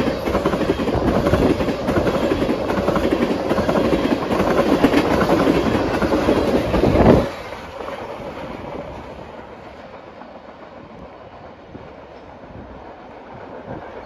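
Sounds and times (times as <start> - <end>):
train passing with wheel clatter: 0.0 - 14.0.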